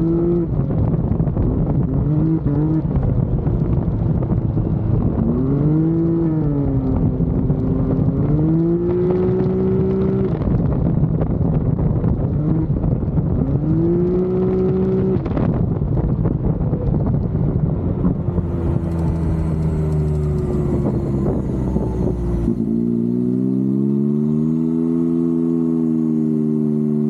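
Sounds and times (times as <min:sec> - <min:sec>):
engine pulling hard and easing off: 0:00.0 - 0:27.0
rush of wind and road noise: 0:00.0 - 0:27.0.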